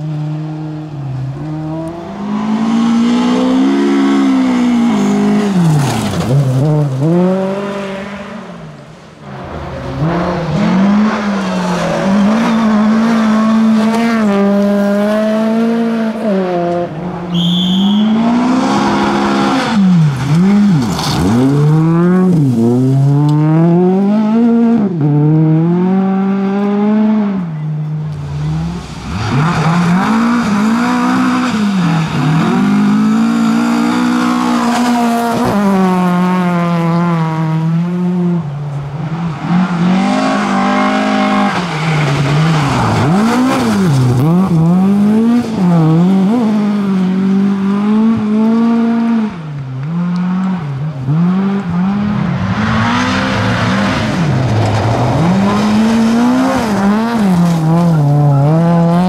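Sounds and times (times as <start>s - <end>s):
rally car engines revving high: 0.0s - 59.0s.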